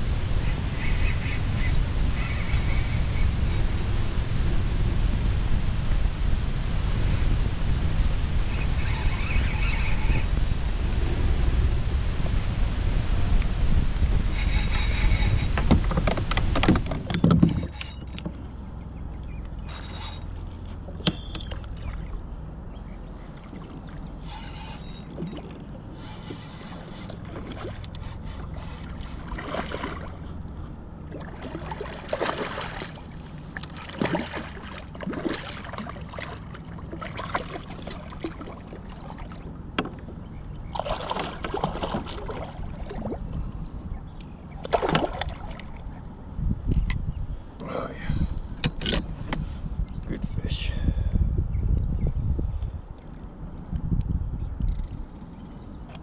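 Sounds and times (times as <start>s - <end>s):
water splashing and sloshing: 0.0s - 47.0s
wind rumble on microphone: 0.0s - 56.0s.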